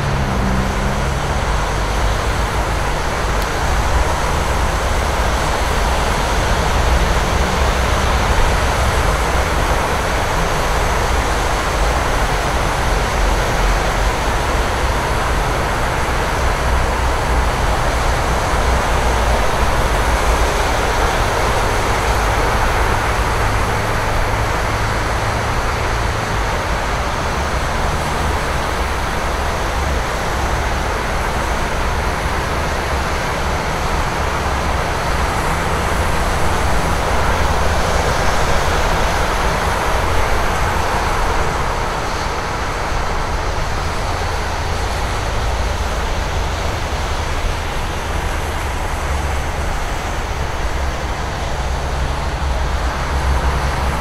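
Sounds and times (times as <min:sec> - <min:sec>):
passing engines rumbling: 0:00.0 - 0:54.0
tyres hissing on wet road: 0:00.0 - 0:54.0.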